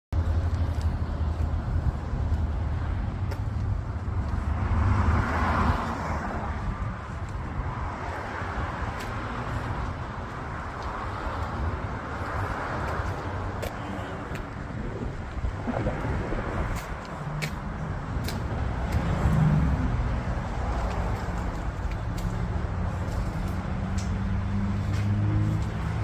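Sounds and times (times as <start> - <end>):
vehicle engine rumbling: 0.1 - 26.0
passing vehicles: 0.2 - 26.0.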